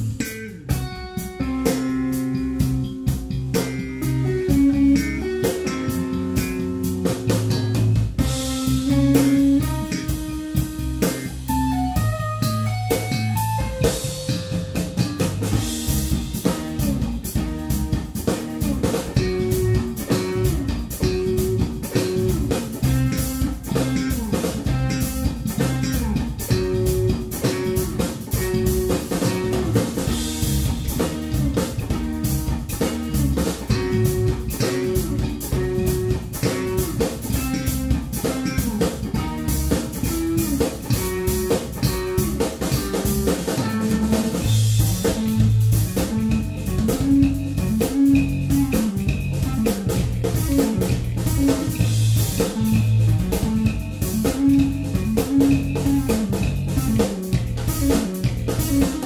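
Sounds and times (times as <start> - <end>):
drum kit with cymbals: 0.0 - 59.0
electric bass: 0.0 - 59.0
electric guitar: 0.0 - 59.0.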